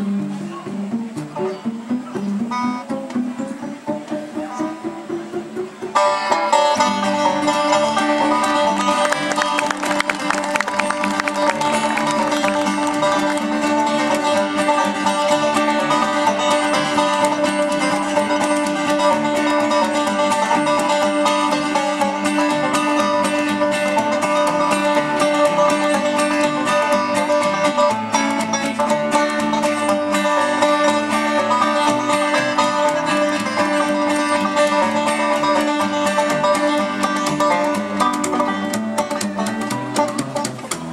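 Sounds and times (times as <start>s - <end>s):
acoustic guitar: 0.0s - 40.9s
banjo: 0.0s - 40.9s
bluegrass instrumental: 0.0s - 40.9s
upright bass: 0.0s - 40.9s.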